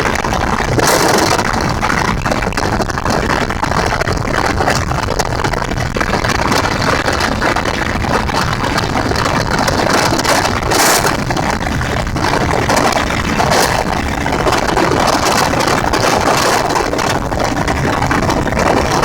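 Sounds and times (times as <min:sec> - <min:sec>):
gyrocopter engine running: 0:00.0 - 0:19.0
wind rush on microphone: 0:00.0 - 0:19.0.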